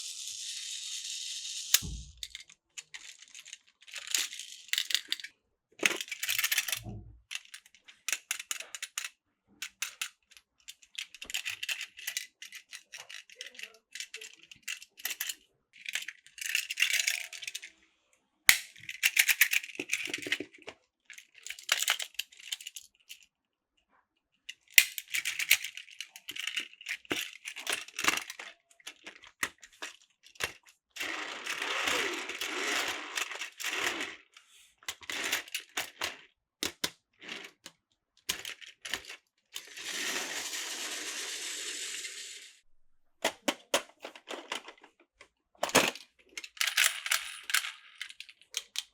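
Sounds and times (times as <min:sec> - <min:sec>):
plastic toy train parts clicking: 0:00.0 - 0:17.8, 0:18.5 - 0:23.3, 0:24.4 - 0:42.5, 0:43.2 - 0:48.9.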